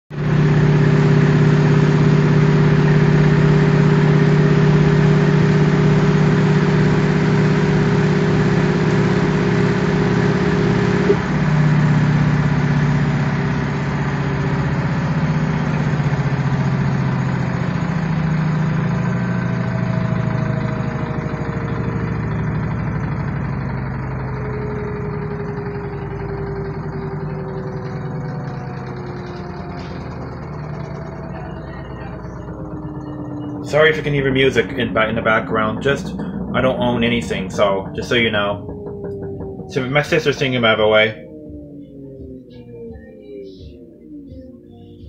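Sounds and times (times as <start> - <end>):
washing machine motor humming: 0.1 - 45.0.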